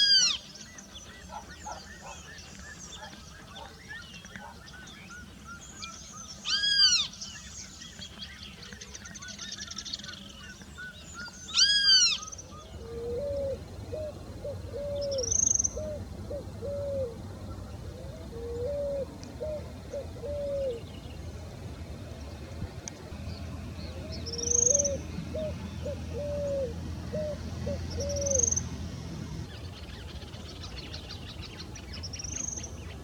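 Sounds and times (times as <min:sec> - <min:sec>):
loud arched bird calls: 0:00.0 - 0:07.5, 0:09.1 - 0:21.0, 0:23.8 - 0:33.0
small birds chattering: 0:00.0 - 0:21.6, 0:22.2 - 0:33.0.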